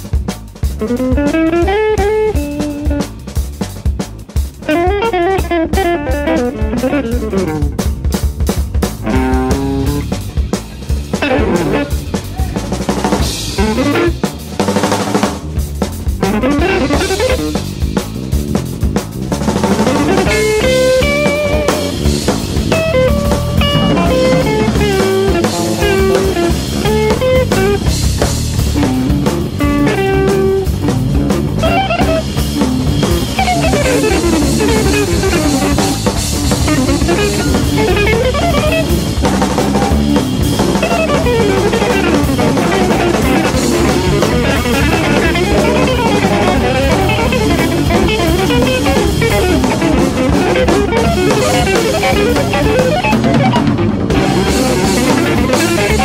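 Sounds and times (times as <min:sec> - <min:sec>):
drum kit with cymbals: 0:00.0 - 0:56.0
guitar melody: 0:00.0 - 0:56.0.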